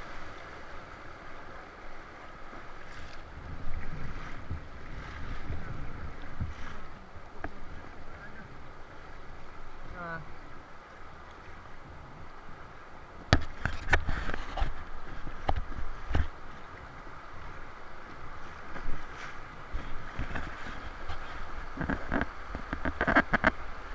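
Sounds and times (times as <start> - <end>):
river water rushing: 0.0 - 23.9
water splashing against raft: 0.0 - 23.9.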